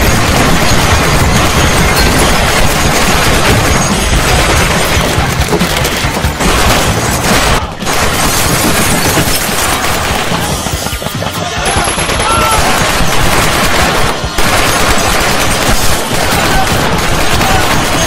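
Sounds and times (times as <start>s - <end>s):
booming impacts: 0.0s - 18.0s
gunfire: 0.0s - 18.0s.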